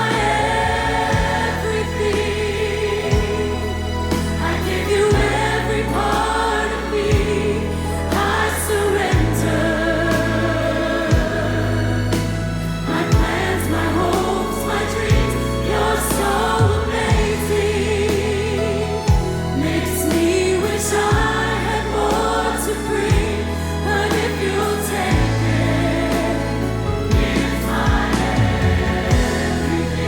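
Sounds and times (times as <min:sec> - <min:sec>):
gospel choir singing: 0:00.0 - 0:30.0.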